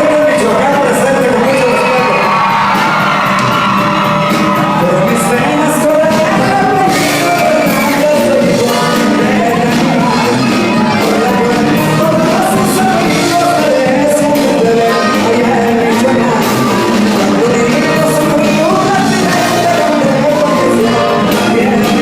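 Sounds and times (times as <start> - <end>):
live band music: 0.0 - 22.0
person singing: 4.4 - 22.0.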